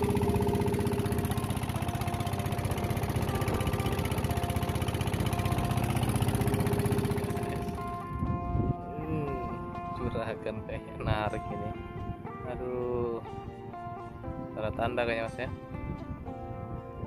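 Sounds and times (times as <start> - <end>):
small boat engine running: 0.0 - 17.0.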